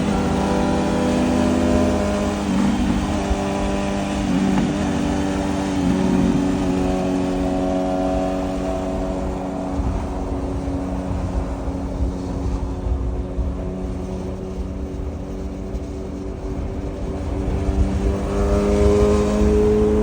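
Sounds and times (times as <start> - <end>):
motorcycle engine cruising: 0.0 - 20.0
wind rumble: 0.0 - 20.0.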